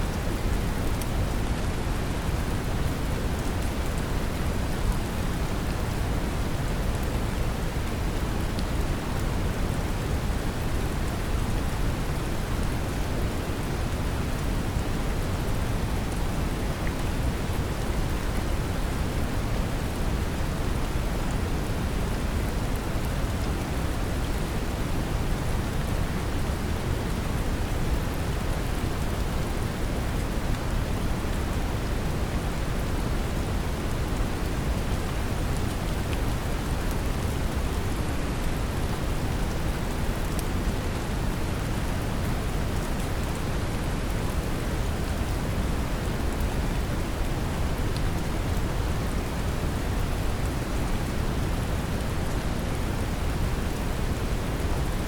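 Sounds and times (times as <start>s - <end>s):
gentle rain: 0.0s - 55.0s.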